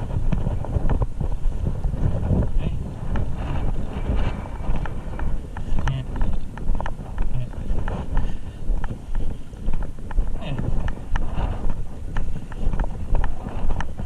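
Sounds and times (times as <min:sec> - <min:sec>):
low rumble: 0:00.0 - 0:14.0
wind on microphone: 0:00.0 - 0:14.0.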